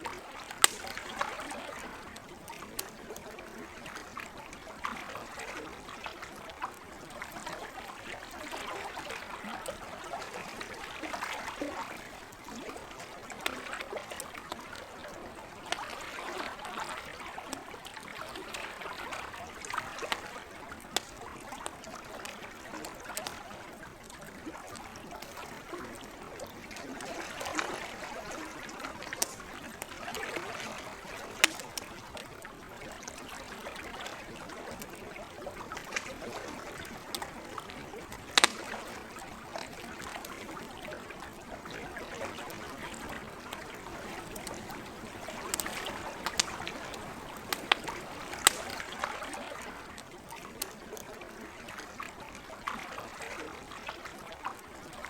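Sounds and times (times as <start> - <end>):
campfire crackling and popping: 0.0 - 51.4
lake water lapping: 0.0 - 55.0.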